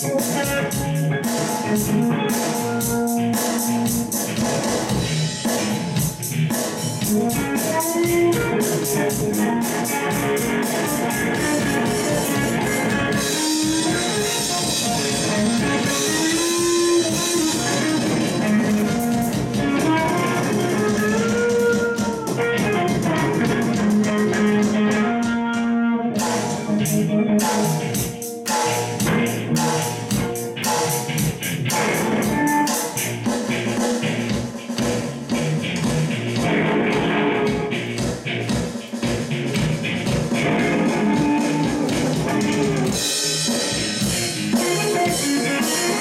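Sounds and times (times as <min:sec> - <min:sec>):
blues guitar: 0:00.0 - 0:46.0
steady drum beat: 0:00.0 - 0:46.0.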